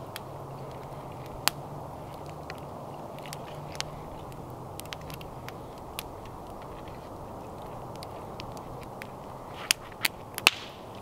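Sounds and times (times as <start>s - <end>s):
campfire crackling: 0.0s - 11.0s
sharp pops from burning logs: 0.0s - 11.0s.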